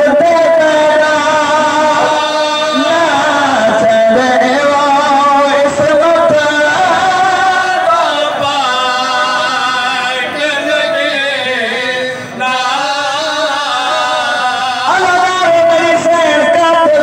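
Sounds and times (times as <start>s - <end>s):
man chanting through microphone: 0.0s - 17.0s.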